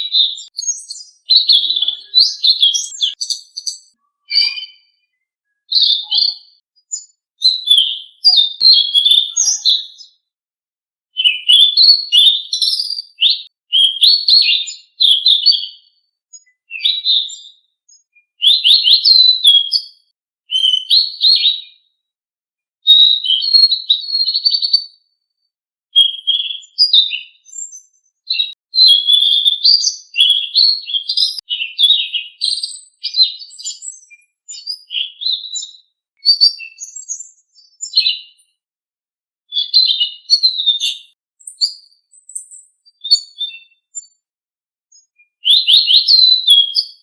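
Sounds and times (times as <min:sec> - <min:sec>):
bird chirps and whistled trills: 0:00.0 - 0:10.3, 0:11.1 - 0:21.9, 0:22.9 - 0:25.2, 0:26.0 - 0:38.6, 0:39.5 - 0:44.2, 0:44.9 - 0:47.0.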